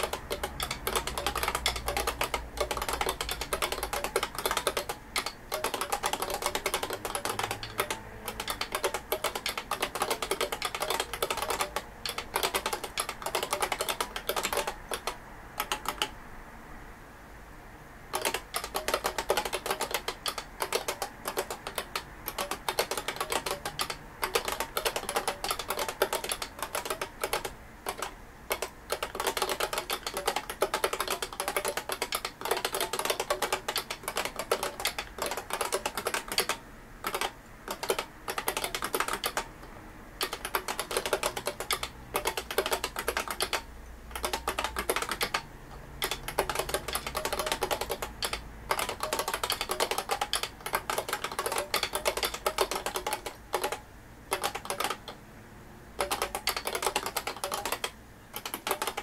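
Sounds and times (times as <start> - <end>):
mechanical keyboard typing: 0.0 - 16.2, 18.1 - 55.2, 56.0 - 59.0.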